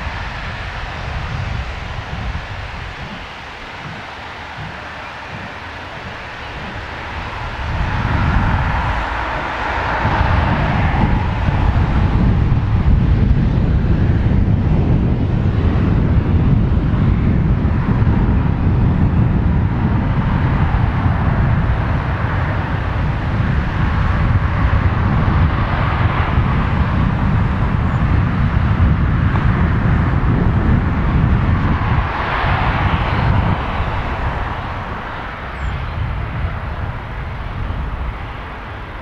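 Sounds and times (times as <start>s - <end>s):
steam train rumbling along track: 0.0s - 39.0s
wind on microphone: 0.0s - 39.0s.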